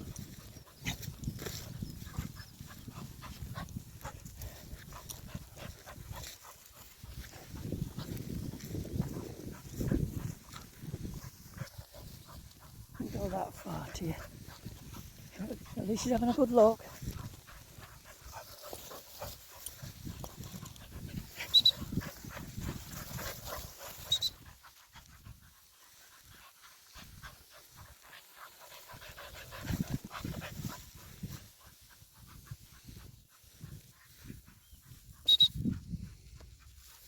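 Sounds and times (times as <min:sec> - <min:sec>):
dog panting: 0:00.0 - 0:35.2.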